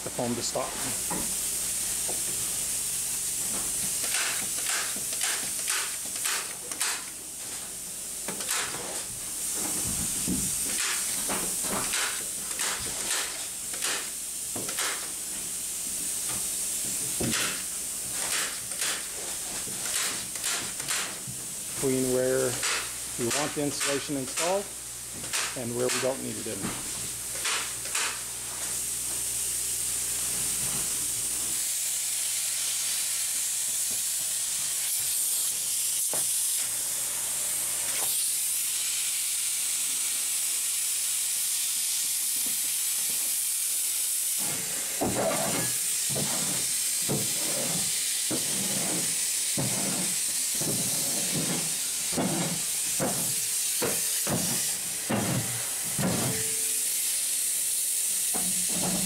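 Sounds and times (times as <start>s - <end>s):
spray foam gun hissing: 0.0s - 59.0s.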